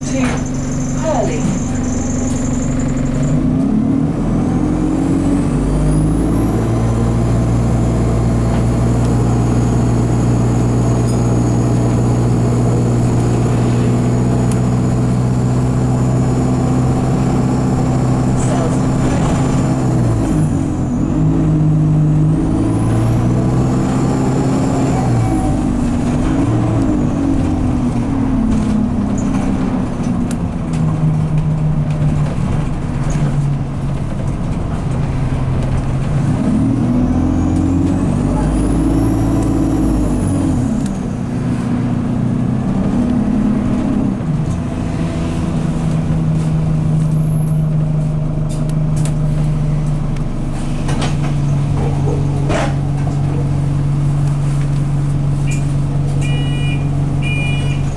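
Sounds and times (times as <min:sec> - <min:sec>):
bus engine revving: 0:00.0 - 0:57.9.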